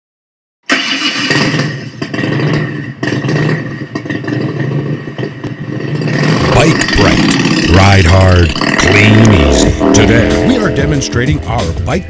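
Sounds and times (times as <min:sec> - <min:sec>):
motorcycle engine revving: 0:00.7 - 0:12.0.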